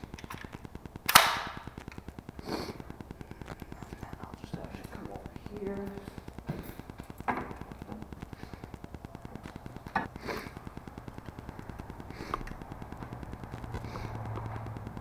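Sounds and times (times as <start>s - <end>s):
air compressor pulsing: 2.2s - 15.0s.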